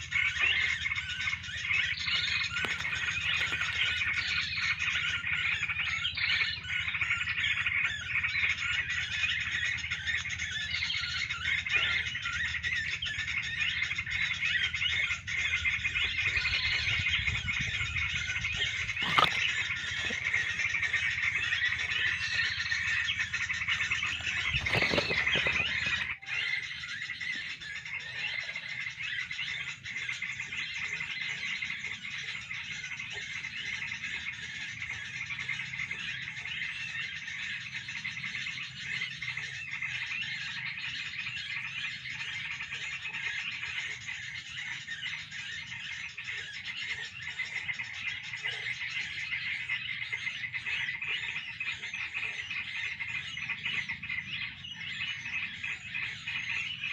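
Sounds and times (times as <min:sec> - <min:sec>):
songbirds chattering: 0:00.0 - 0:56.9.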